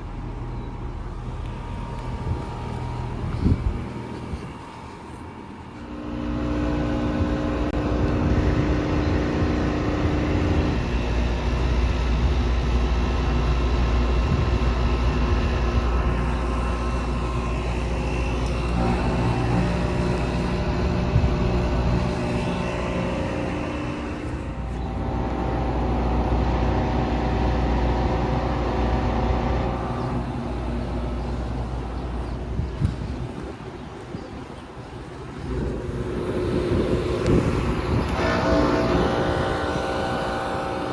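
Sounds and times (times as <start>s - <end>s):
fan noise: 0.0s - 40.9s
heat pump compressor hum: 0.0s - 40.9s.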